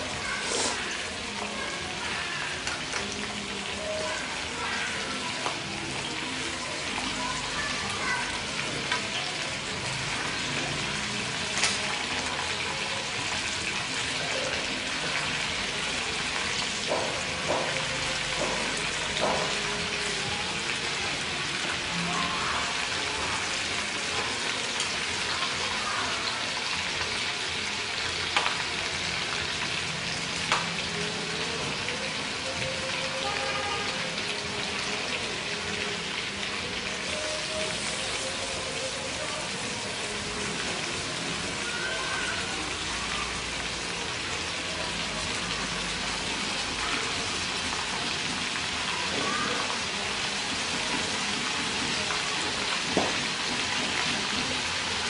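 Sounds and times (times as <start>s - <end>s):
meat sizzling in hot oil: 0.0s - 55.0s.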